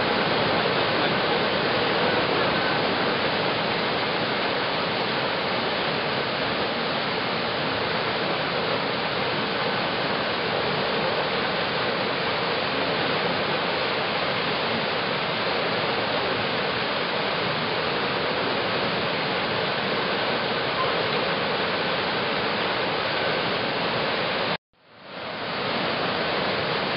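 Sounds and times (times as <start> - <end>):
flowing water rushing: 0.0 - 26.9.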